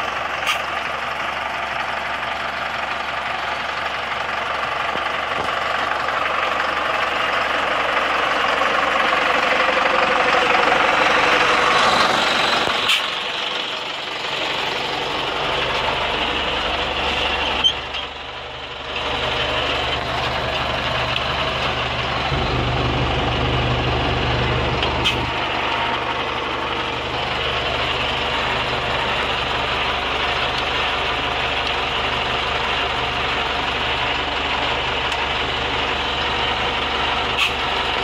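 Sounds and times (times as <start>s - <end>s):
tractor diesel engine droning: 0.0s - 38.0s.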